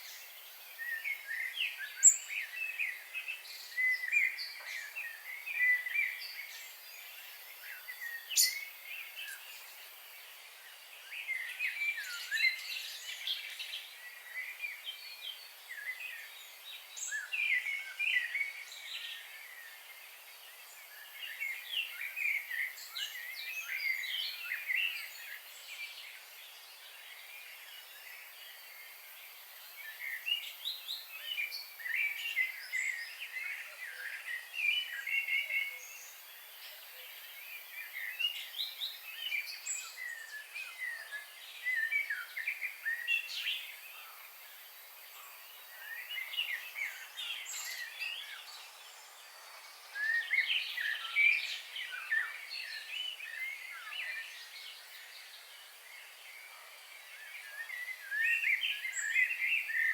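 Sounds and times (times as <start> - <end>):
faint steady hiss: 0.0 - 59.9
wild birds chirping and singing: 0.0 - 59.9.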